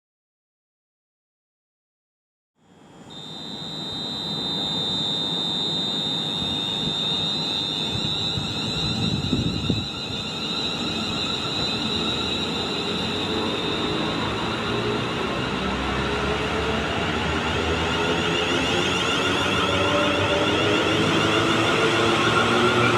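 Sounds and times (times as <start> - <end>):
train high-pitched whine: 2.8 - 22.9.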